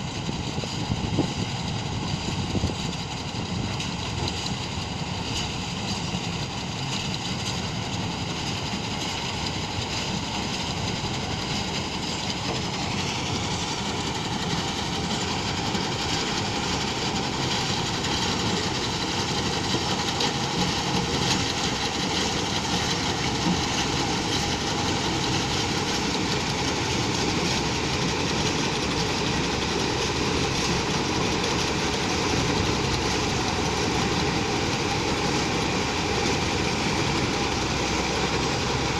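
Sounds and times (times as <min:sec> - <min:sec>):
combine harvester machinery drone: 0:00.0 - 0:38.9.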